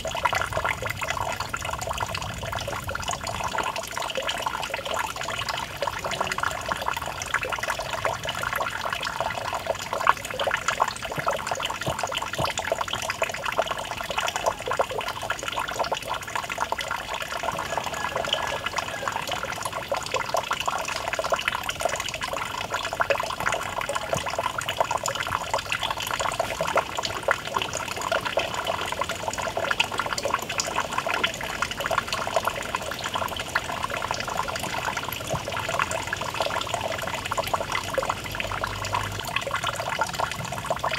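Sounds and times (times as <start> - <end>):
fountain splashing into a pool: 0.0 - 40.9.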